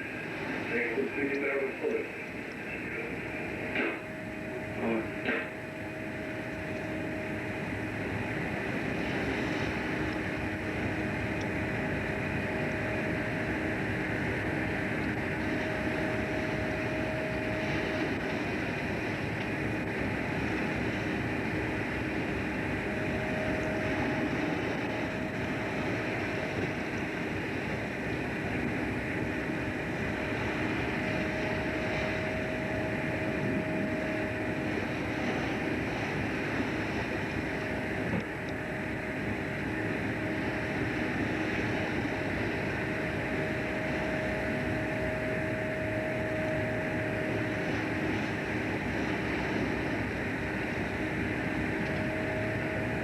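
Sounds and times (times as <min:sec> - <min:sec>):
boat engine running: 0:00.0 - 0:53.0
high whine: 0:00.0 - 0:53.0
water noise: 0:00.0 - 0:53.0
wind: 0:00.0 - 0:53.0.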